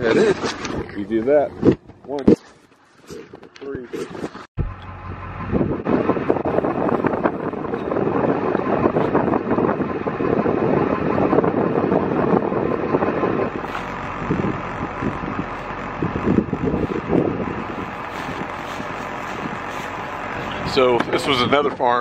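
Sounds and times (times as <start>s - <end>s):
wind buffeting microphone: 4.1s - 22.0s.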